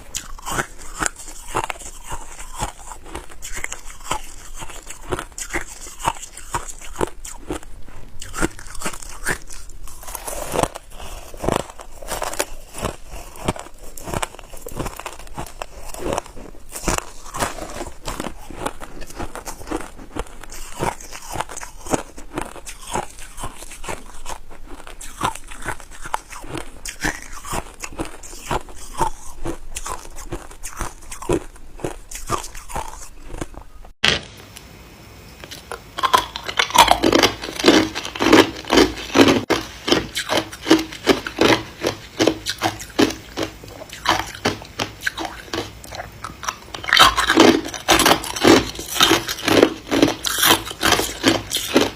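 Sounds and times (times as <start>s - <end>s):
ice crunching being chewed: 0.0s - 34.0s, 35.4s - 51.9s.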